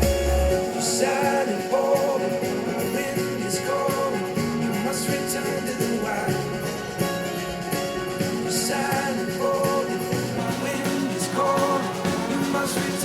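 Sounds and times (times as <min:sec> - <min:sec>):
song through studio speakers: 0:00.0 - 0:13.0.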